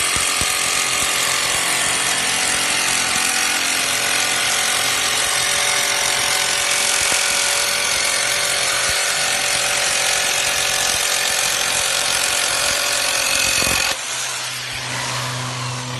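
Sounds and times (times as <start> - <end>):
jigsaw cutting sheet: 0.0 - 15.9.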